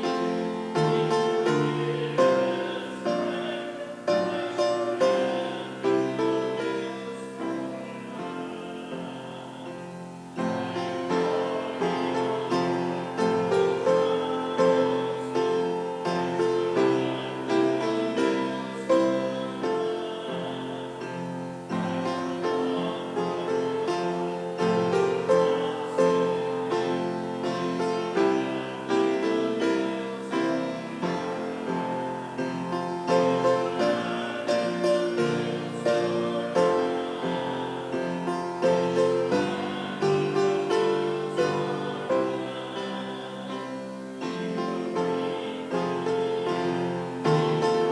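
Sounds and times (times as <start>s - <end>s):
hymn on piano: 0.0s - 47.9s.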